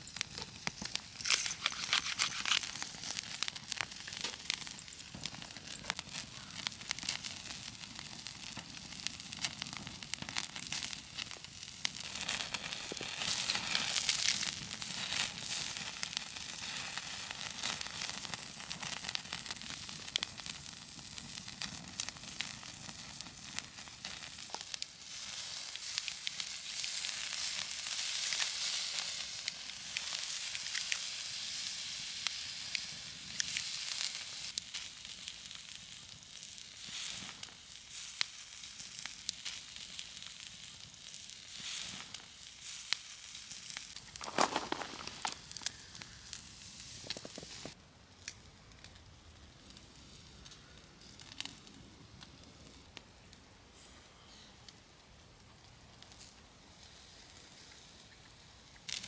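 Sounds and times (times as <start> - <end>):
sizzling with crackles and pops: 0.0 - 59.0.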